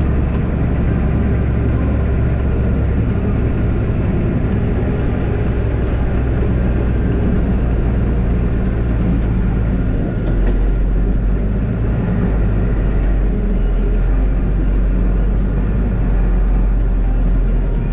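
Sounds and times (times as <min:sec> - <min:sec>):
diesel engine droning under load: 0:00.0 - 0:17.9
snowplow rushing noise: 0:00.0 - 0:17.9.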